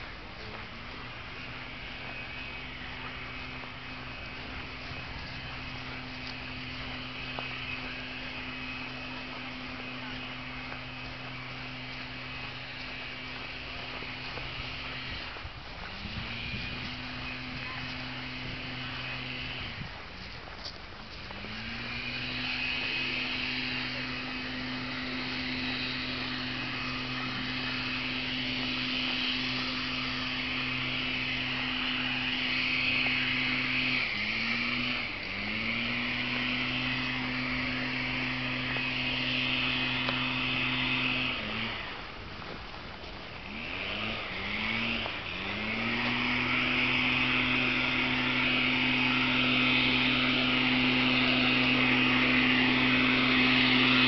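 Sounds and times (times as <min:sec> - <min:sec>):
leaf blower engine drone: 0:00.0 - 0:54.0.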